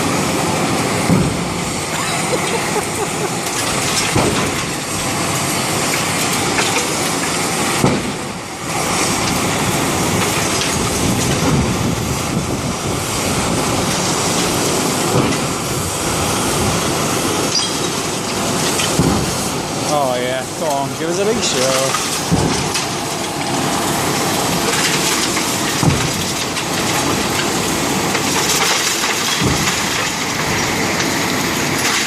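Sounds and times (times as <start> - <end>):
demolition machinery clatter: 0.0 - 32.0.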